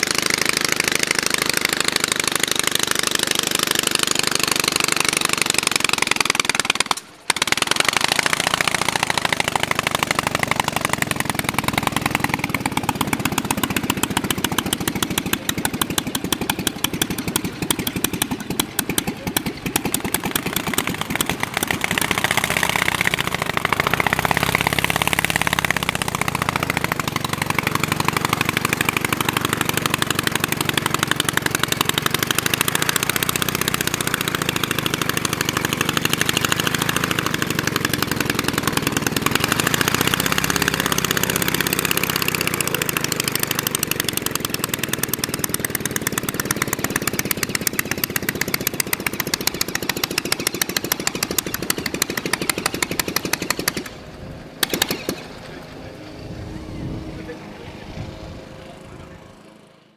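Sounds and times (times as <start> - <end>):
aero engine running: 0.0 - 59.9.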